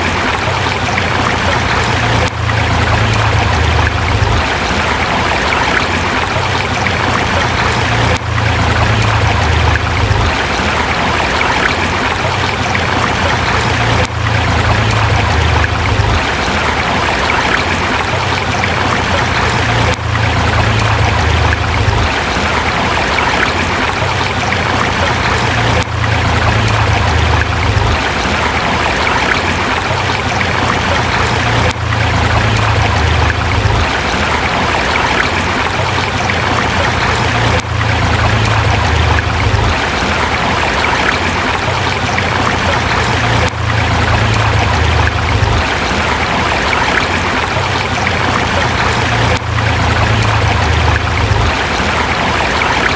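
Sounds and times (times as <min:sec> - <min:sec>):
river flowing over rocks: 0:00.0 - 0:52.9.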